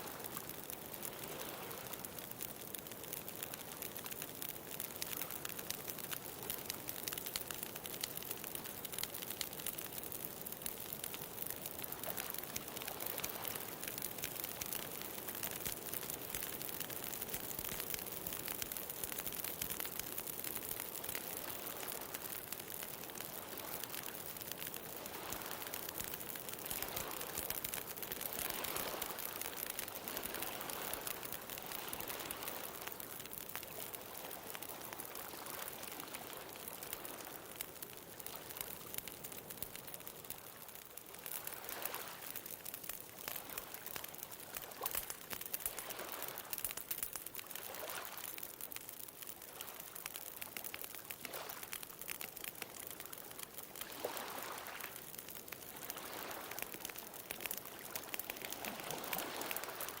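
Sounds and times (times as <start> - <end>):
bonfire crackling and popping: 0.0 - 60.0.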